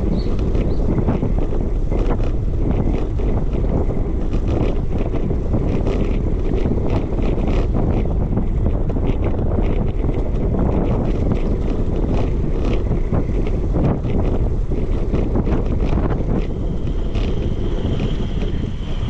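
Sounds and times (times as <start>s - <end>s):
small clicks and rattles: 0.0s - 19.0s
wind buffeting microphone: 0.0s - 19.0s.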